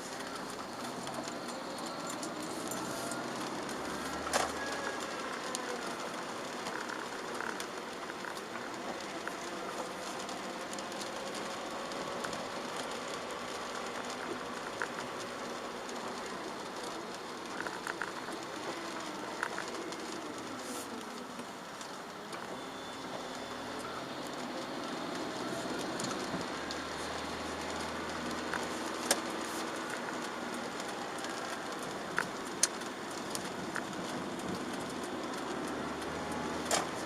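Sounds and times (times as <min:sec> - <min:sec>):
car engine: 0:00.0 - 0:37.0
rain ticking on car: 0:00.0 - 0:37.0
tyres on wet road: 0:00.0 - 0:37.0.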